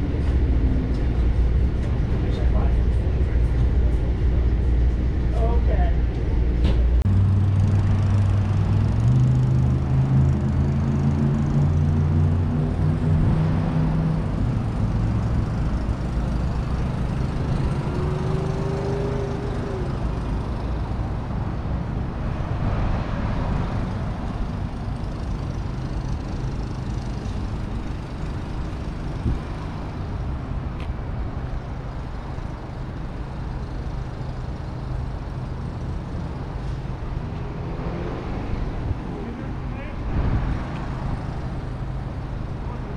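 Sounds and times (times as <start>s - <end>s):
rumble of passing traffic: 0.0s - 42.9s
vehicle humming: 0.0s - 42.9s.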